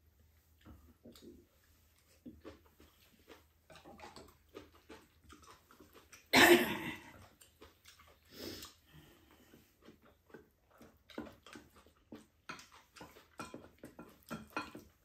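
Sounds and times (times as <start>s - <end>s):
chewing: 0.4s - 15.0s.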